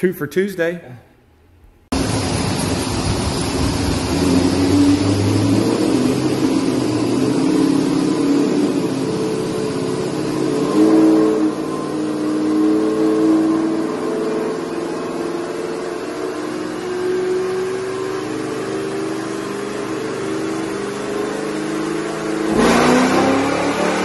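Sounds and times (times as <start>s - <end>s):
car engine running under load: 1.9s - 24.0s.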